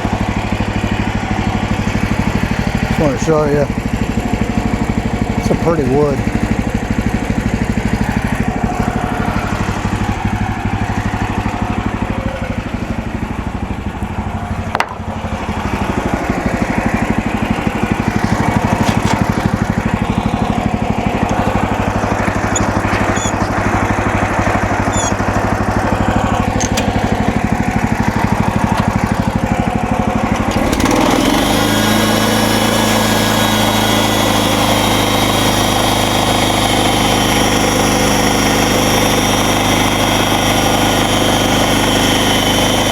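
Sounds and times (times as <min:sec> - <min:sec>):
bandsaw sawmill running: 0:00.0 - 0:42.9.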